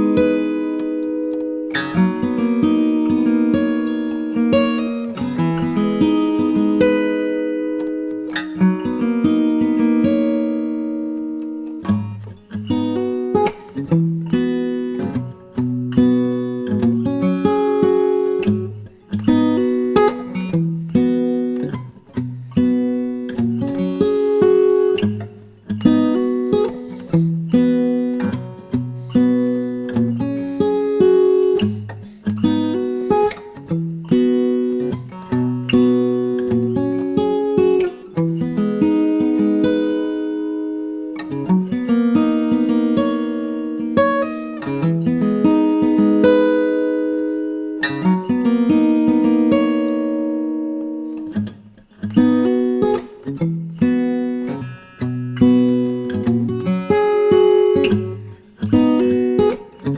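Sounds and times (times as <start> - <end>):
acoustic guitar music: 0.0 - 59.9.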